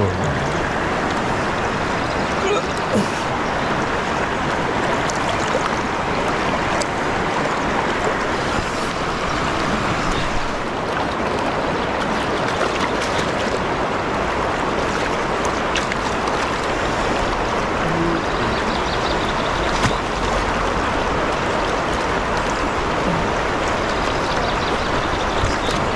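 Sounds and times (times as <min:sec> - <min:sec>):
river current rushing: 0:00.0 - 0:25.9
small water splashes: 0:00.0 - 0:25.9.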